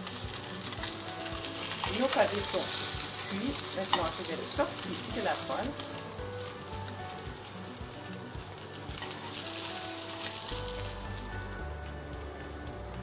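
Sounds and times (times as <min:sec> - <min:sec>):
fish sizzling in frying pan: 0:00.0 - 0:12.6.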